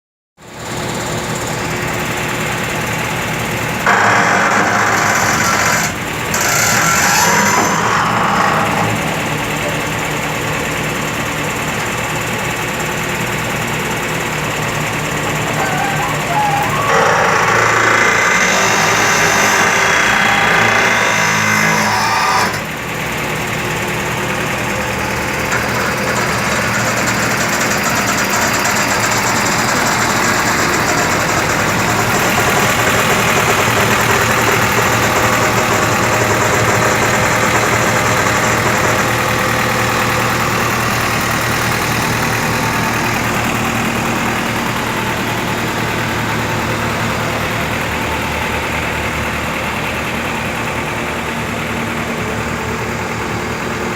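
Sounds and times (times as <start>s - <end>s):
engine idling: 0.4s - 53.9s.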